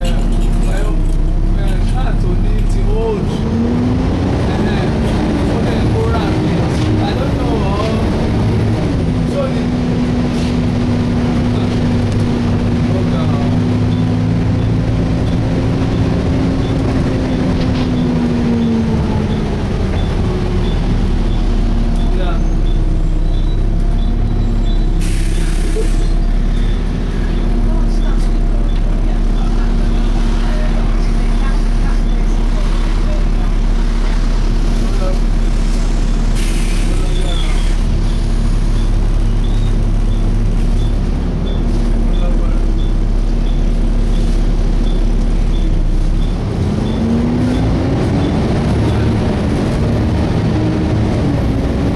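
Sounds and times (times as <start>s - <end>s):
bus engine and cooling fan running: 0.0s - 51.9s.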